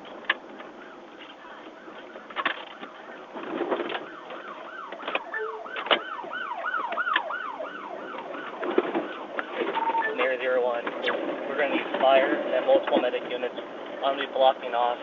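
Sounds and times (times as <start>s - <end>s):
emergency siren wailing: 0.0s - 12.4s.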